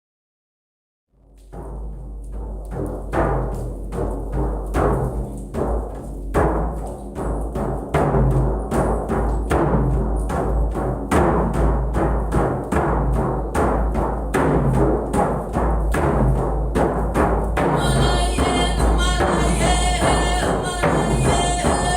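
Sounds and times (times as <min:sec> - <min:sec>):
deep drums beating: 0:01.2 - 0:21.9.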